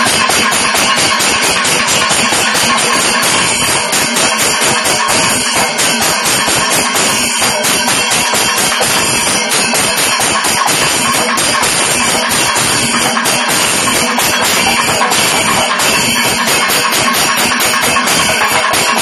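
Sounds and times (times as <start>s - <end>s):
clashing cymbals: 0.0s - 19.0s
rapid drum strokes: 0.0s - 19.0s.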